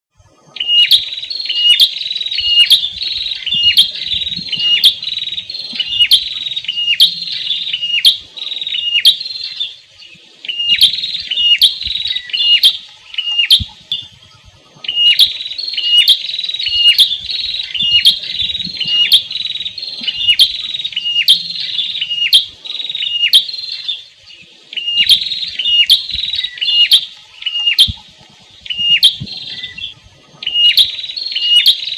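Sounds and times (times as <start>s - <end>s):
bird singing sharp high notes: 0.5s - 31.9s.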